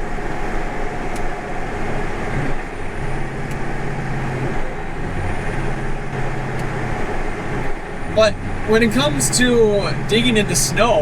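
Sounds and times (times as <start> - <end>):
low hum: 0.0 - 11.0
tractor engine under load: 0.0 - 11.0.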